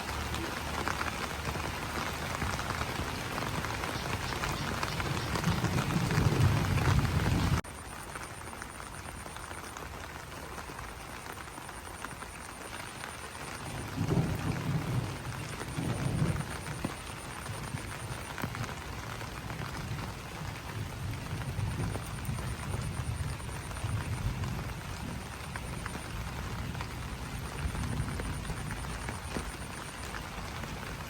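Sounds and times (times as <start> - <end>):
rain pattering on leaves: 0.0 - 31.0.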